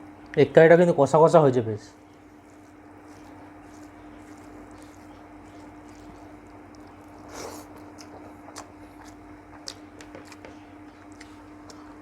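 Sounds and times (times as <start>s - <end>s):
low steady hum: 0.0s - 12.0s
person chewing food: 2.0s - 12.0s.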